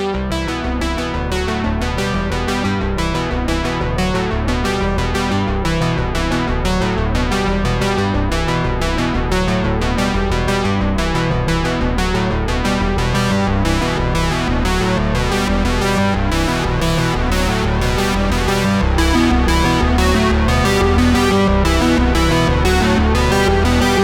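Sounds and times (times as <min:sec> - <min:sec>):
heavy bass: 0:00.0 - 0:24.0
synthesizer and keyboard music: 0:00.0 - 0:24.0.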